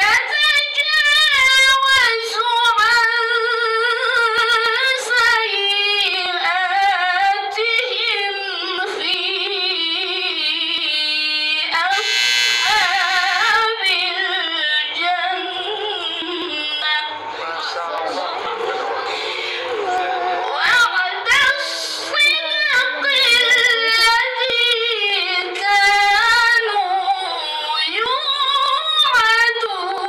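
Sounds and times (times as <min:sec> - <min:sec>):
woman chanting into a microphone: 0:00.0 - 0:17.2, 0:19.6 - 0:30.0.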